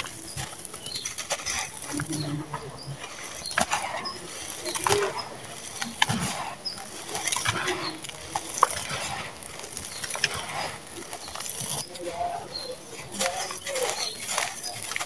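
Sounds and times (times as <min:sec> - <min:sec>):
dry cement crunching and crumbling: 0:00.0 - 0:15.0
lumps snapping: 0:00.0 - 0:15.0.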